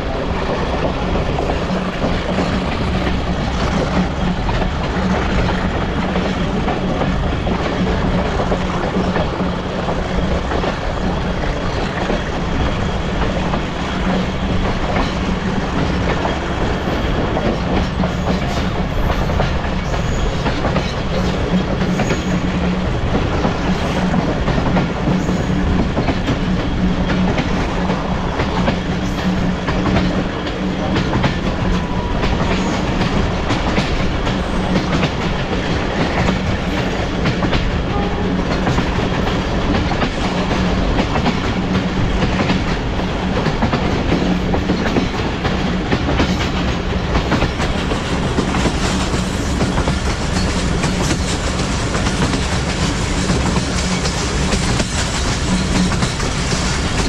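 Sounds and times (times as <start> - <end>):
rail clicks: 0.0 - 57.0
train wheels rumbling on rails: 0.0 - 57.0.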